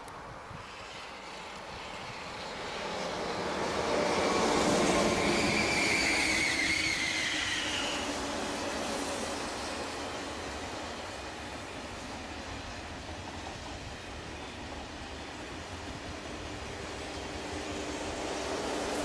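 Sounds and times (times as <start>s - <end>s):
high-speed train passing: 0.0s - 19.0s.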